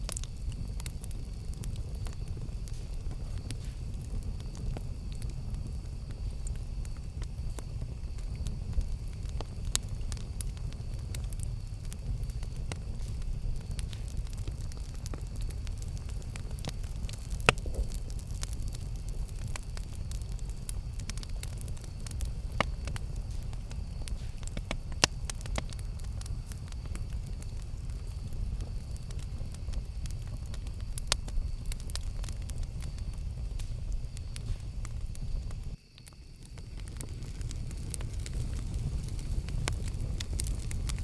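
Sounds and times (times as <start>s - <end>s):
low rumble of flame: 0.0s - 41.0s
wood crackling and popping: 0.0s - 41.0s.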